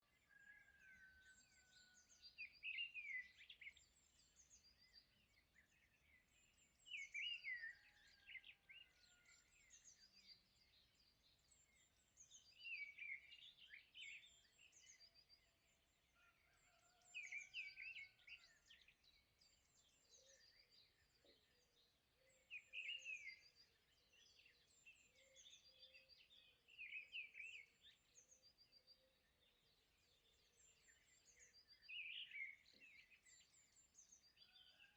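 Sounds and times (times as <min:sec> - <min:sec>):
faint bird chirping: 0:00.0 - 0:34.9.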